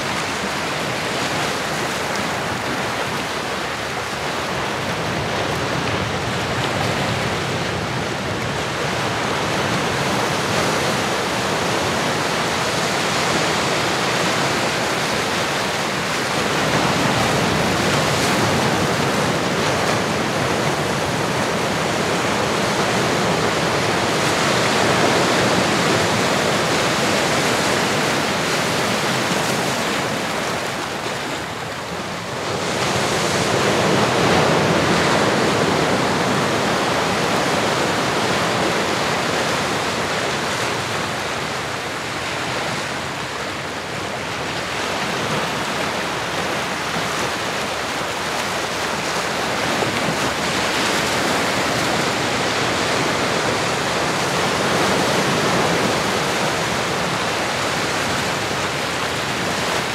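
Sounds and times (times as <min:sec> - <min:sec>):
ocean waves: 0:00.0 - 0:59.9.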